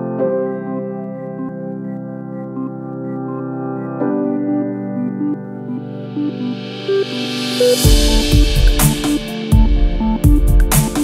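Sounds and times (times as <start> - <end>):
keyboard chords music: 0.0 - 11.0.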